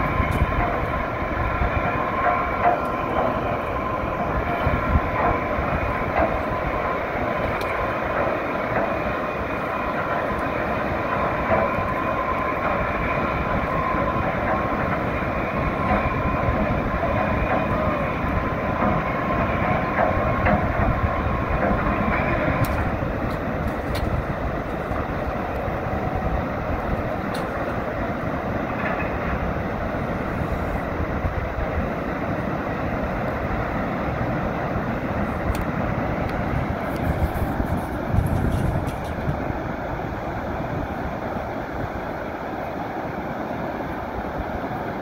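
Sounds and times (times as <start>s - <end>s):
thin steady whine: 0.0s - 45.0s
water rushing under dam gates: 0.0s - 45.0s.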